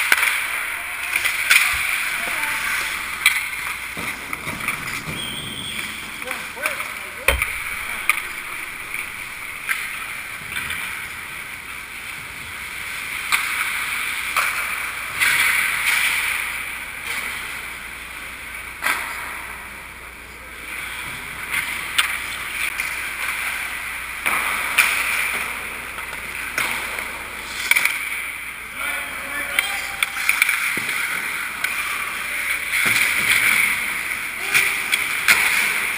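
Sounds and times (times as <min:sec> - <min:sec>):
hockey sticks and puck clacking: 0:00.0 - 0:19.8, 0:20.7 - 0:28.6, 0:29.2 - 0:35.9.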